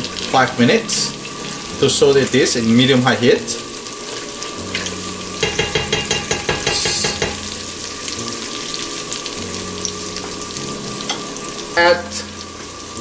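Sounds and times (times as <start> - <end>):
spice paste sizzling in oil: 0.0 - 13.0.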